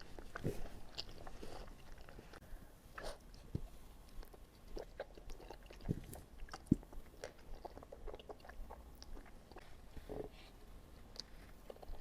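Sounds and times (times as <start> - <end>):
chewing crunchy food: 0.0 - 2.4, 3.0 - 12.0.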